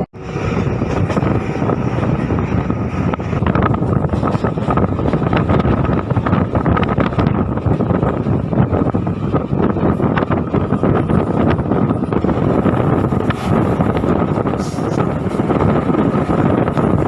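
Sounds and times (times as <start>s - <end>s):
rail clicks: 0.0s - 17.0s
train wheels rumbling on track: 0.0s - 17.0s
wind buffeting microphone: 0.0s - 17.0s.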